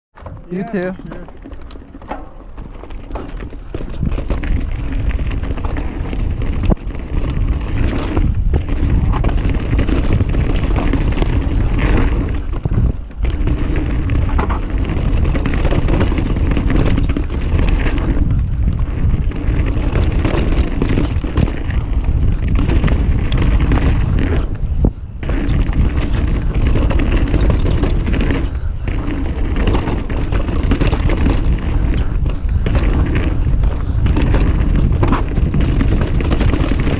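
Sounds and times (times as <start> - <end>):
bike rattling over bumps: 0.1 - 36.9
tyres rolling over dirt: 0.1 - 36.9
wind on microphone: 2.5 - 36.9.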